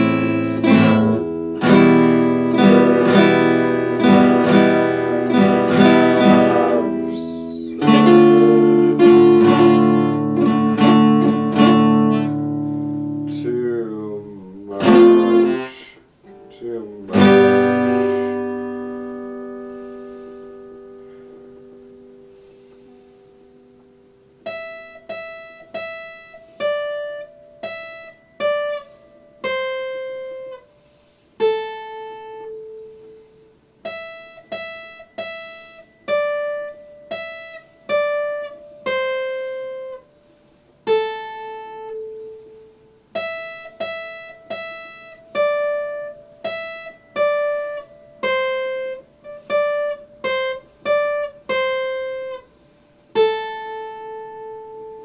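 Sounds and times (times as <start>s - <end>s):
acoustic guitar slow melody: 0.0s - 55.0s.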